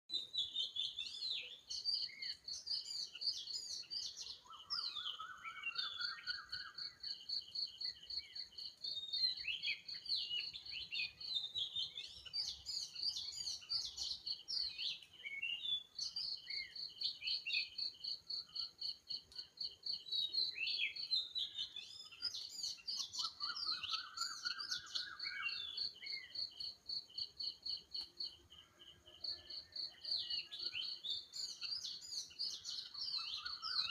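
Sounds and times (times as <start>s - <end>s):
birds chirping and trilling: 0.1s - 33.9s.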